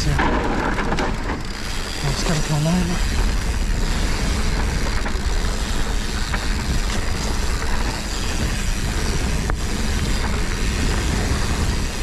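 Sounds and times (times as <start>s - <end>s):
tyres rumbling over dirt: 0.0s - 12.0s
wind on microphone: 0.0s - 12.0s.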